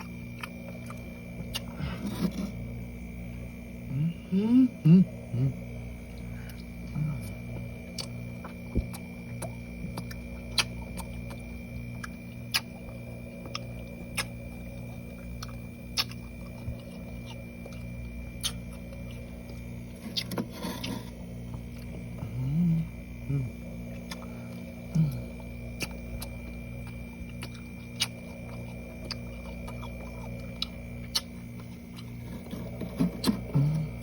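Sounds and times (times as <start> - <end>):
chewing frost crunches: 0.0 - 2.8, 5.6 - 34.0
low hum: 0.0 - 34.0.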